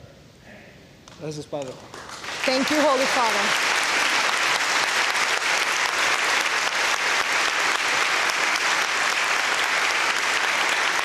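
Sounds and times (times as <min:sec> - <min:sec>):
crowd clapping: 0:01.5 - 0:11.0.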